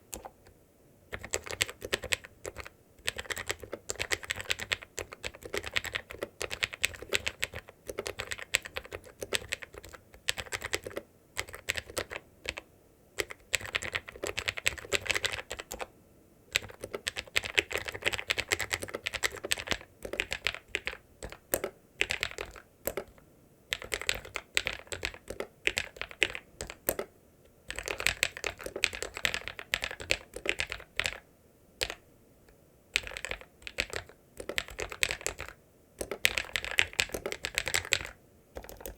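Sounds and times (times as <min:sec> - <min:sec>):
mechanical keyboard typing: 0:00.1 - 0:00.4, 0:01.1 - 0:15.9, 0:16.5 - 0:27.1, 0:27.7 - 0:31.2, 0:31.8 - 0:32.0, 0:32.9 - 0:38.9.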